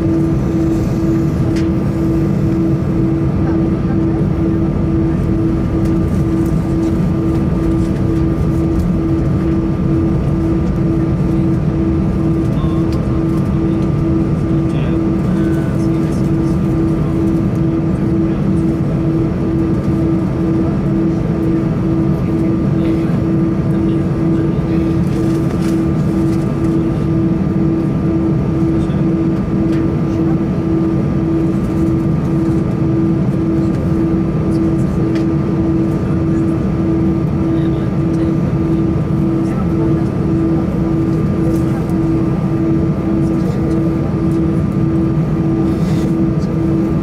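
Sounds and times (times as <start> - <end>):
aircraft cabin engine rumble: 0.0 - 47.0
faint steady whine: 0.0 - 47.0
pulsing hum: 0.0 - 47.0.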